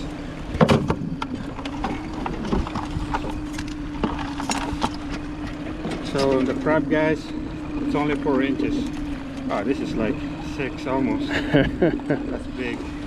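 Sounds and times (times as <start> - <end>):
boat motor hum: 0.0 - 13.0.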